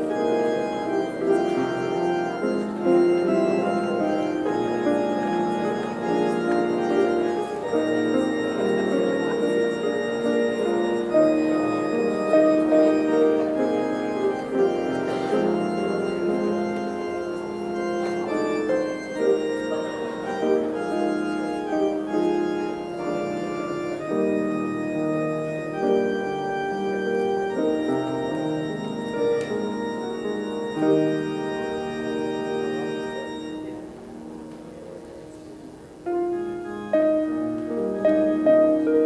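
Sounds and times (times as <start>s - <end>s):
church organ chords: 0.0s - 39.0s.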